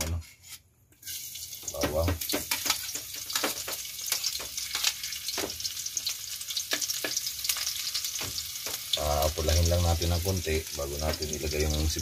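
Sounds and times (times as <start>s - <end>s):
garlic sizzling in oil: 1.0s - 12.0s.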